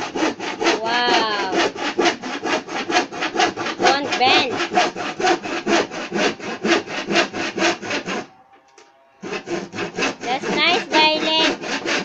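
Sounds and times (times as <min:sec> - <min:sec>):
hand saw cutting wood: 0:00.0 - 0:08.5, 0:09.1 - 0:12.0.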